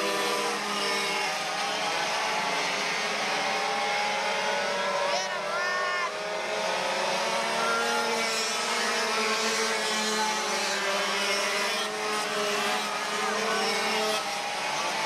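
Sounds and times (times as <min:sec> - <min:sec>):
racing kart engines whining: 0:00.0 - 0:15.0.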